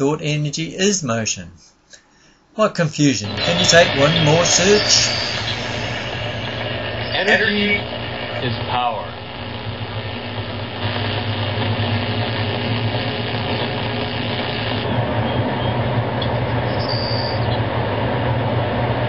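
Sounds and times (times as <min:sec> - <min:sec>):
power lines humming and buzzing: 0:03.3 - 0:19.0.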